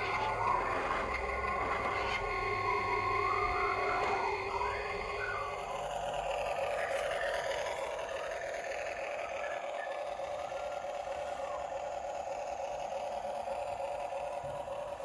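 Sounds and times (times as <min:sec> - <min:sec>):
toy motors whining: 0:00.0 - 0:15.0.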